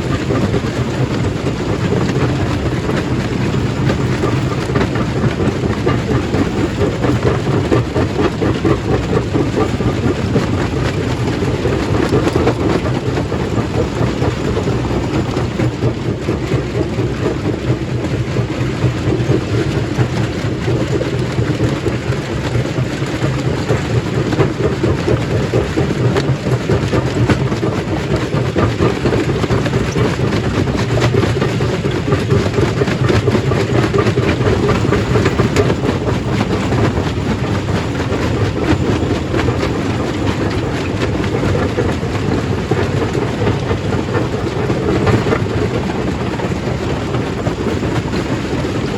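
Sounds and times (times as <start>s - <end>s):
stone crusher machine rumbling: 0.0s - 48.9s.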